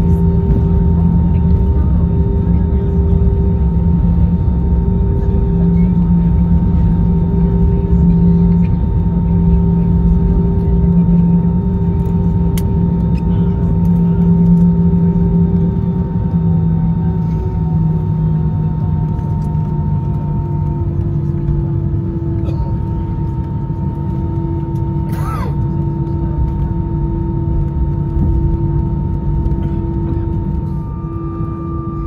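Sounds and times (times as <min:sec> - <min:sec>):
jet engines humming and whining: 0:00.0 - 0:32.0
rumble of wheels: 0:00.0 - 0:32.0.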